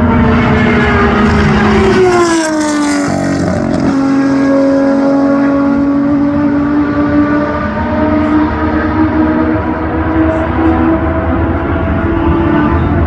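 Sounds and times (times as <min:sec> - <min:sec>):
racing car engine passing by: 0:00.0 - 0:13.0.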